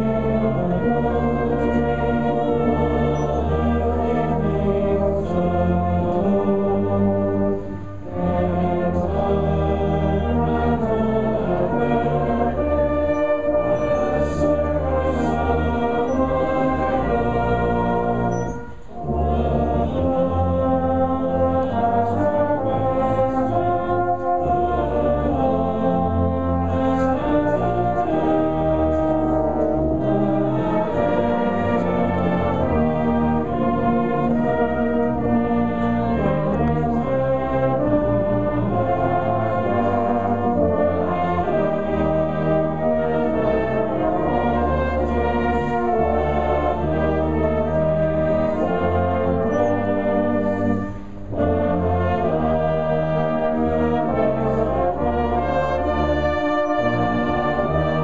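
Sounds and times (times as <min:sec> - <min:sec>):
brass band playing a hymn: 0:00.0 - 0:58.0.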